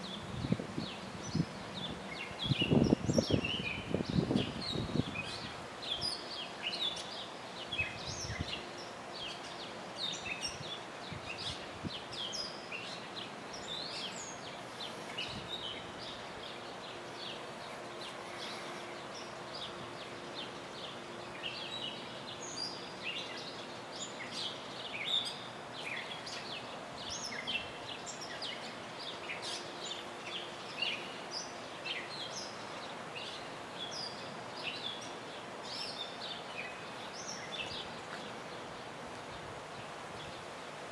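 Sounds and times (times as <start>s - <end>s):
birds chirping and calling: 0.0s - 40.5s
faint steady hum: 0.0s - 40.9s.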